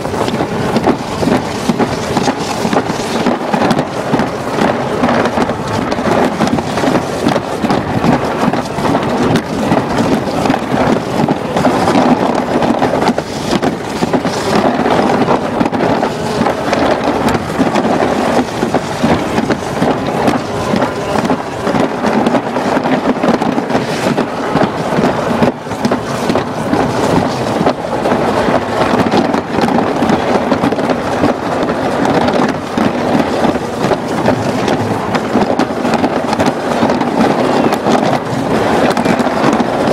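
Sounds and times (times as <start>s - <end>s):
sled rushing down track: 0.0s - 39.9s.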